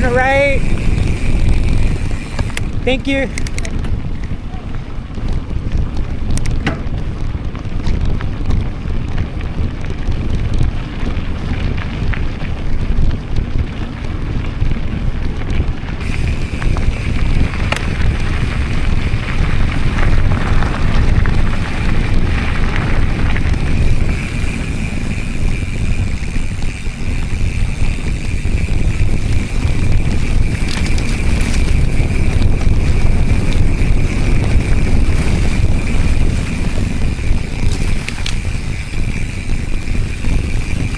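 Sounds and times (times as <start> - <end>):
bike tyres rumbling on trail: 0.0 - 40.9
wind buffeting microphone: 0.0 - 40.9.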